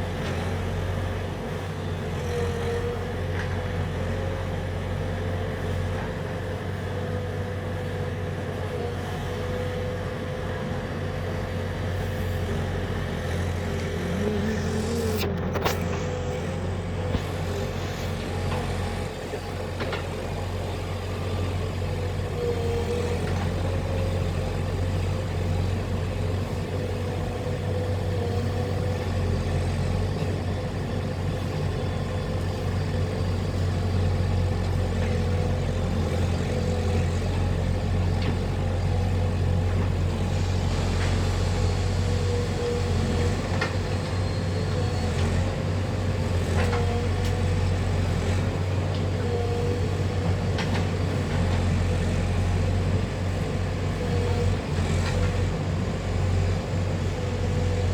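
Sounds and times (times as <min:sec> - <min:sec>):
diesel engine drone: 0:00.0 - 0:57.9.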